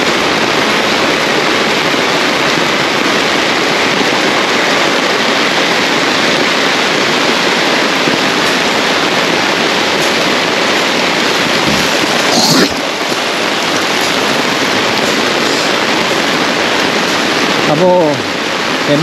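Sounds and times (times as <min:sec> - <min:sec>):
heavy rain on umbrella and road: 0:00.0 - 0:19.0.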